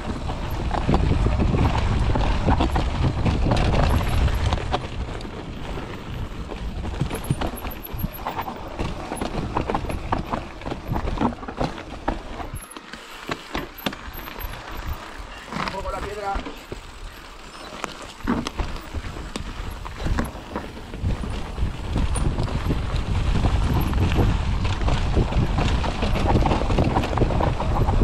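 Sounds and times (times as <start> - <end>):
bike rattling over stones: 0.0 - 28.0.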